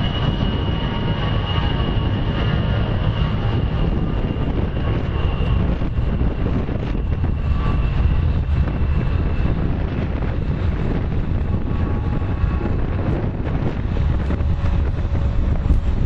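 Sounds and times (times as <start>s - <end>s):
jet engines whining and rumbling: 0.0s - 16.0s
wind buffeting microphone: 0.0s - 16.0s.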